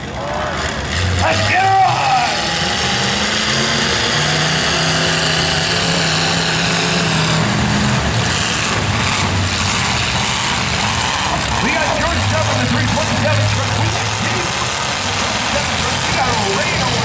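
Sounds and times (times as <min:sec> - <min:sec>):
truck engines running: 0:00.0 - 0:17.0.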